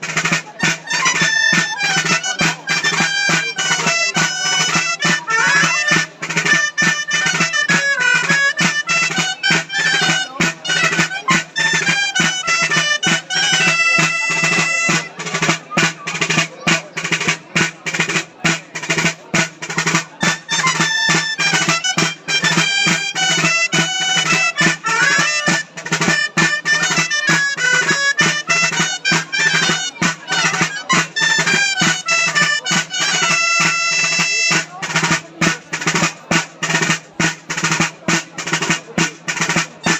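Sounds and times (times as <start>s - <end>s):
reedy folk wind instruments: 0.0s - 39.9s
small drum beating steadily: 0.0s - 39.9s.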